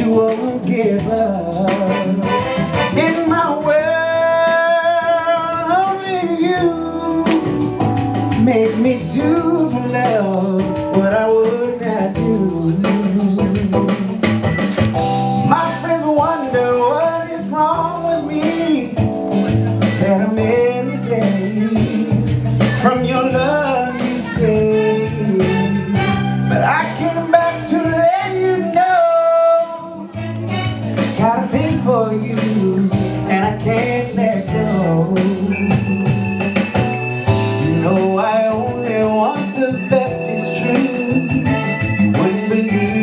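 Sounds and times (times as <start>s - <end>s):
man singing into a microphone: 0.0s - 14.4s, 15.4s - 30.4s, 31.0s - 36.1s, 37.3s - 43.0s
guitar: 0.0s - 43.0s
steady bass: 0.0s - 43.0s.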